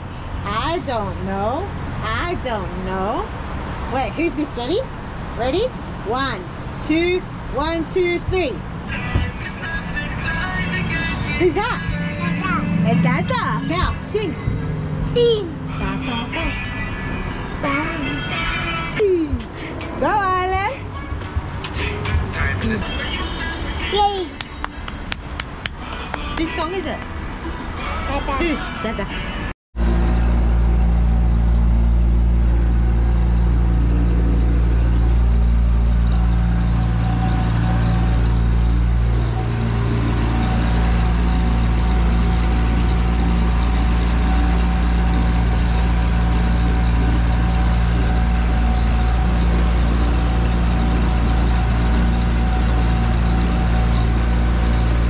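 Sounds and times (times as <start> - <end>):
engine running steadily: 0.0 - 29.1, 29.8 - 55.0.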